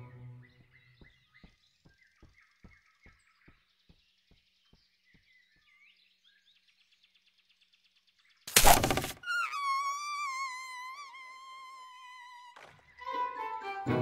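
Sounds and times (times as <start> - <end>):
birds chirping: 0.0 - 13.1.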